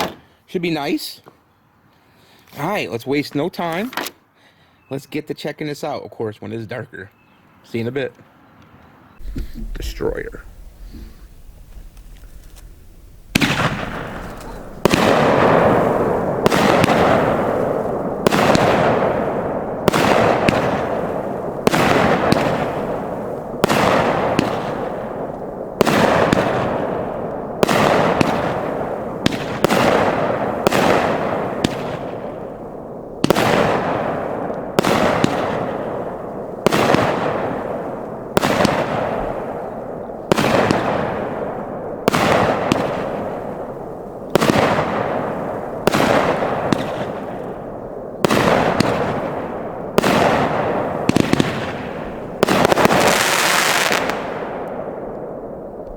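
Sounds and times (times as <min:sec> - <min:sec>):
fireworks cake firing: 0:09.2 - 0:55.5.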